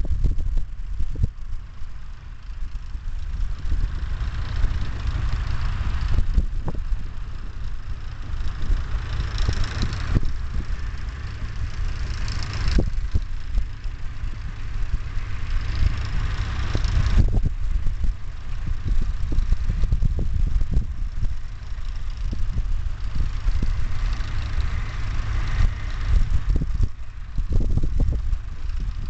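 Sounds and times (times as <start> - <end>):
tractors running: 0.0 - 29.0
wind buffeting microphone: 0.0 - 29.0.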